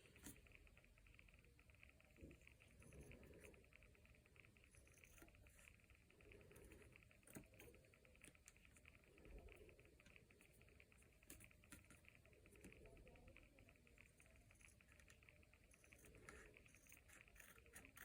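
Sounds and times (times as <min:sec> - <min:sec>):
faint room hiss: 0:00.0 - 0:18.0.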